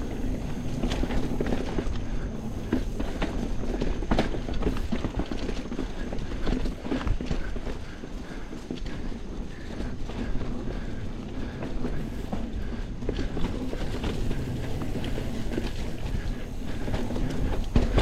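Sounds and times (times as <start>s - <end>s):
bike knocking and rattling: 0.0s - 18.0s
bike tyres rolling on dirt: 0.0s - 18.0s.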